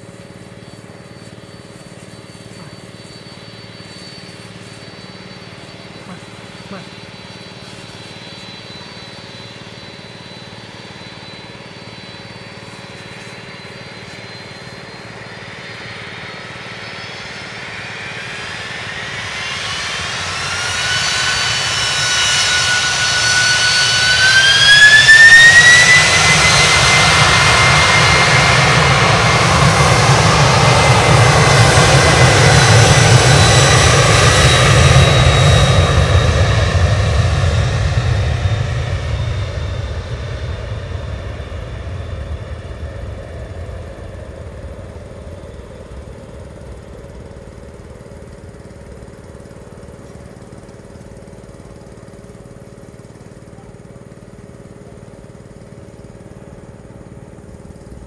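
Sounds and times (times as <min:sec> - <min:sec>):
jet engine roar: 0:00.0 - 0:58.0
jet engines spooling up: 0:00.0 - 0:58.0.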